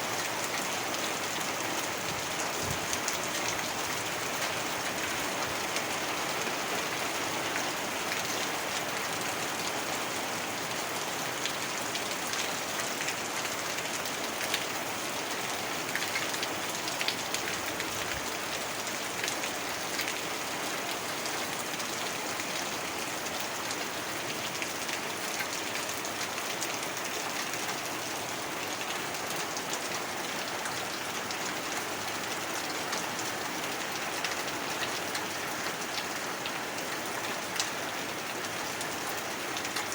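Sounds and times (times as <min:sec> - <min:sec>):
raindrops ticking on surface: 0:00.1 - 0:09.8, 0:10.8 - 0:39.9.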